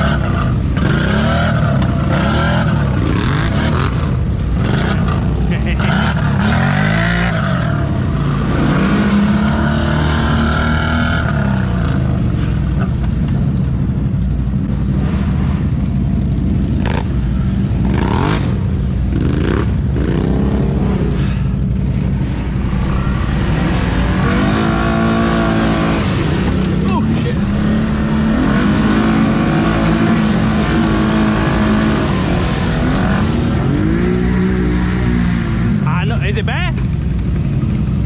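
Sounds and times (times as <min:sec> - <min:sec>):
atv engine revving: 0:00.0 - 0:38.0.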